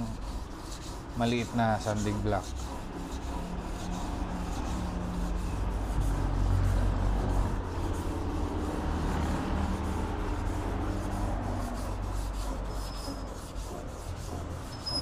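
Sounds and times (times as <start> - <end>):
sandpaper rubbing on metal panel: 0.0 - 15.0.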